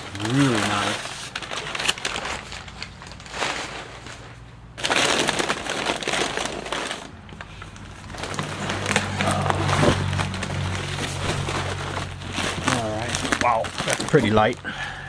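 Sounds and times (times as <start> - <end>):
bubble wrap and paper crinkling: 0.0 - 15.0.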